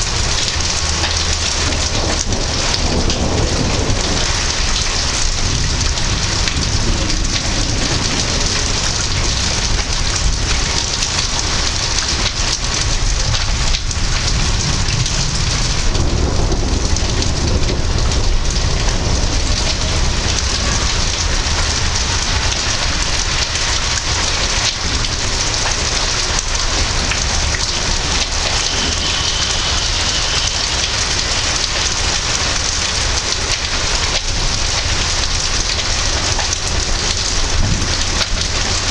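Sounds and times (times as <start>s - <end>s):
heavy rain pouring: 0.0s - 38.9s
thunder rumbling: 0.0s - 38.9s.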